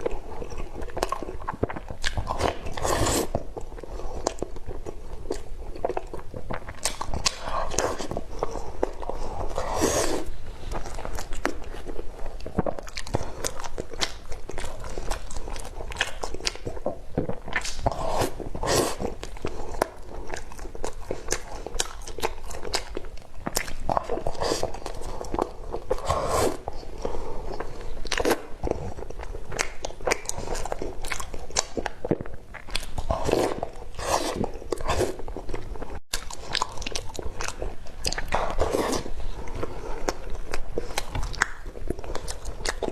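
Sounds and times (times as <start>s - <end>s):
person biting and chewing: 0.0s - 42.9s.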